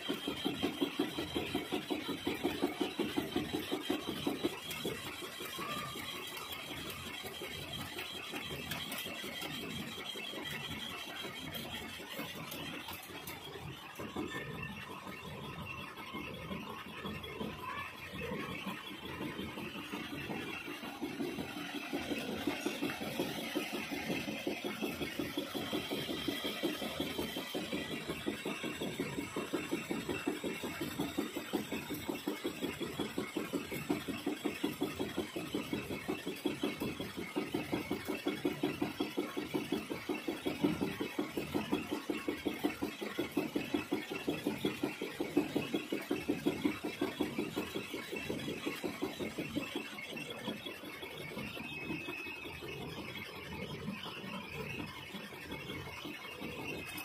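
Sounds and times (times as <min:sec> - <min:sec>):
lathe cutting metal pulsing: 0:00.0 - 0:57.0.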